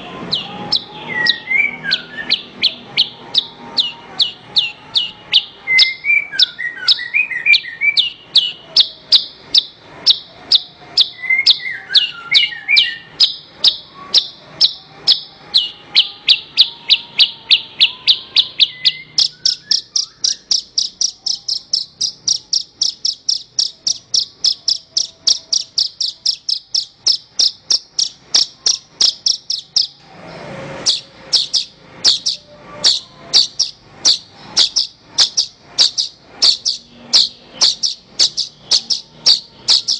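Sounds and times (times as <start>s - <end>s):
faint bird twittering: 0.0s - 39.9s
bush lark singing high notes: 0.2s - 30.0s, 30.8s - 39.9s.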